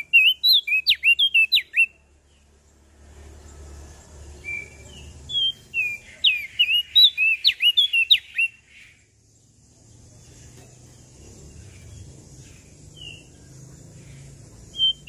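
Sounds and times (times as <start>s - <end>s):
bird singing whistled notes: 0.0s - 2.4s, 4.2s - 9.2s, 10.3s - 15.0s.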